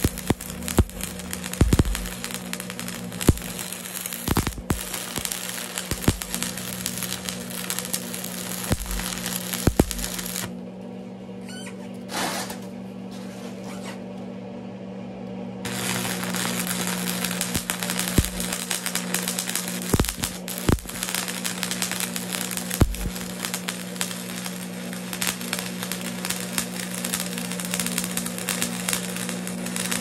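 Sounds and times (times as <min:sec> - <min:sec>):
arc welder crackling: 0:00.0 - 0:10.6, 0:15.6 - 0:30.0
steady low hum: 0:00.0 - 0:30.0.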